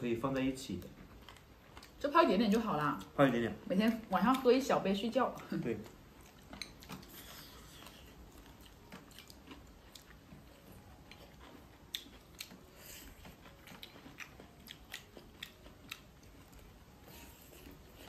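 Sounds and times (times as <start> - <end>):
person chewing meat: 0.7 - 3.4, 5.7 - 18.0.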